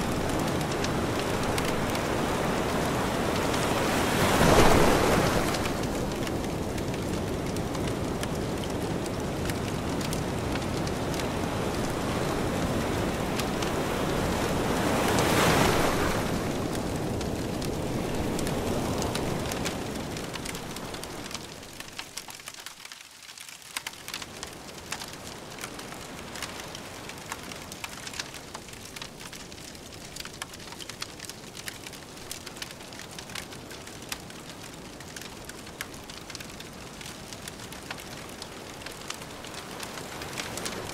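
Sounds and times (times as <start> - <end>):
waves breaking on shore: 0.0 - 22.5, 24.2 - 40.9
campfire crackling: 0.0 - 40.9.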